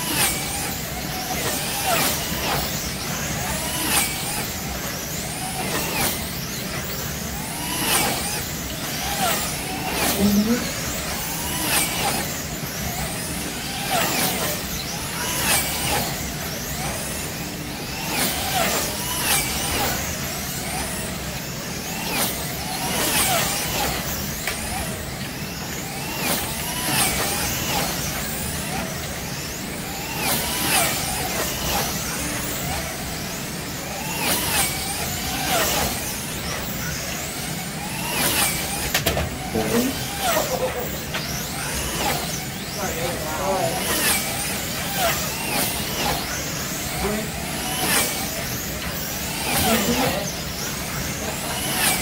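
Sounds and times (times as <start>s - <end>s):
slot car electric motors whining: 0.0s - 52.0s.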